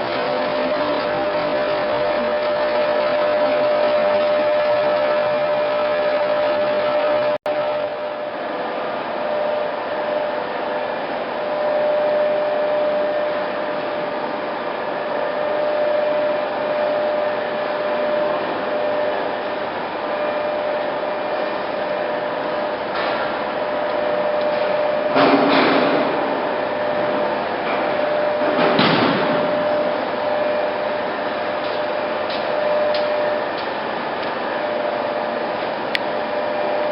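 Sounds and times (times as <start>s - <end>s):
lathe humming and whining: 0.0s - 36.9s.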